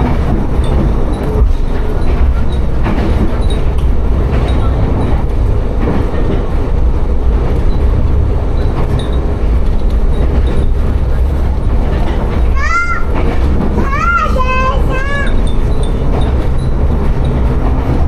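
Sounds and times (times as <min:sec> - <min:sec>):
train rumbling: 0:00.0 - 0:18.0
wheels clattering over rails: 0:00.0 - 0:18.0.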